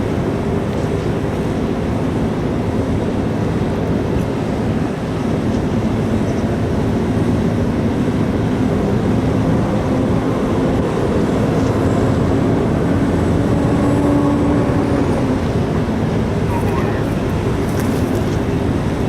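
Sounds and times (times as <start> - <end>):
ship engines rumbling: 0.0 - 19.0
water noise: 0.0 - 19.0
wind: 0.0 - 19.0.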